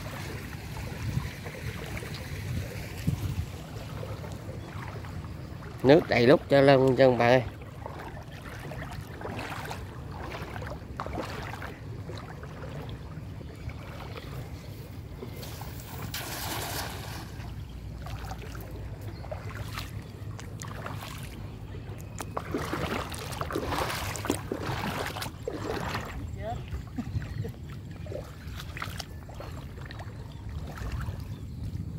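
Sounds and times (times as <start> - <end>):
wind rumble on microphone: 0.0 - 6.6, 7.2 - 31.9
water sloshing and splashing: 0.0 - 31.9.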